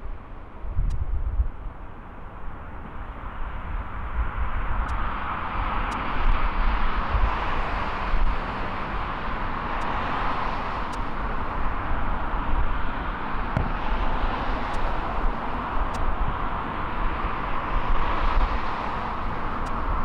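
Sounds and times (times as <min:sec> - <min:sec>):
jet engines roaring at takeoff: 0:01.6 - 0:20.0.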